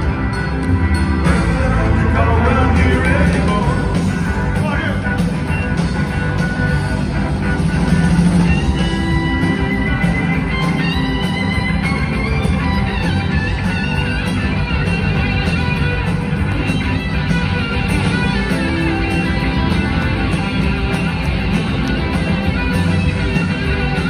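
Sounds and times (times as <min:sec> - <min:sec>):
live rock band playing: 0:00.0 - 0:24.0
sliding lead guitar line: 0:00.0 - 0:24.0.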